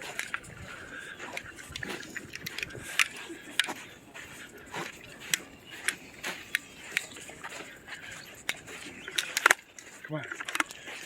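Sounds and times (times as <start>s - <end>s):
footsteps crunching in snow: 0.0s - 11.0s.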